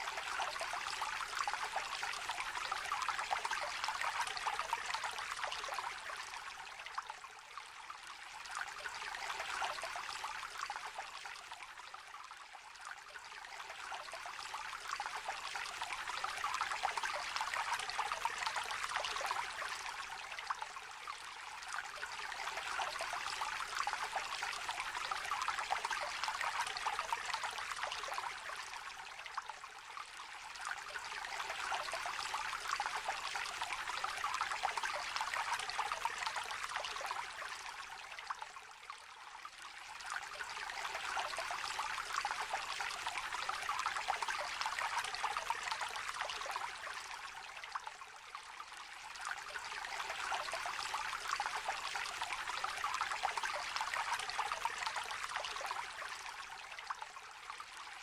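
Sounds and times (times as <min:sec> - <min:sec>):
small river trickling: 0:00.0 - 0:58.0.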